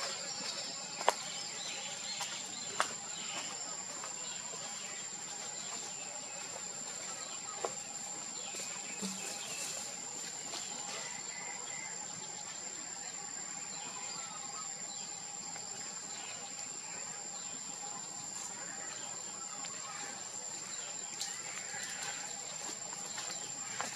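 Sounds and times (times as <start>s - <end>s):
faint chirps: 0.0s - 23.9s.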